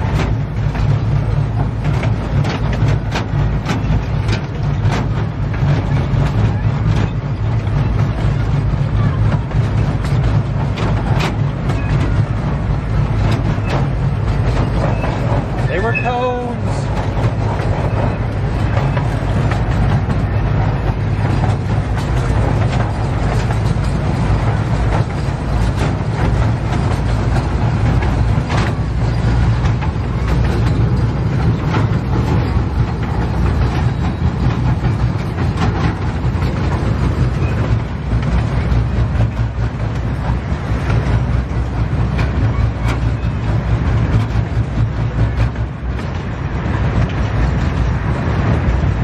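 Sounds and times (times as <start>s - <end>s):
miniature train rumbling: 0.0s - 49.0s
wheels clicking over rail joints: 0.0s - 49.0s.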